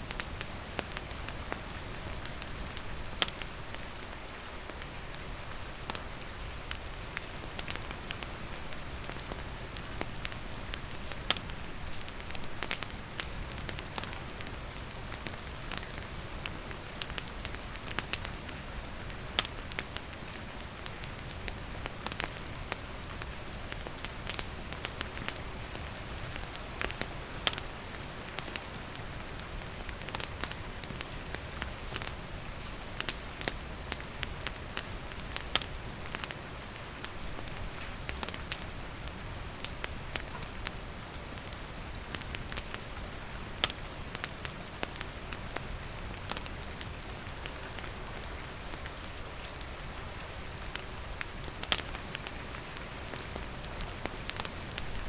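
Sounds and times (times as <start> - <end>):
campfire crackling: 0.0 - 55.0
steady rain: 0.0 - 55.0.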